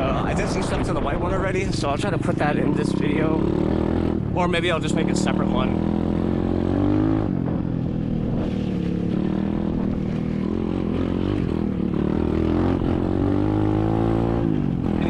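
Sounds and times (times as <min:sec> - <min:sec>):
dirt bike engine revving: 0:02.1 - 0:15.0.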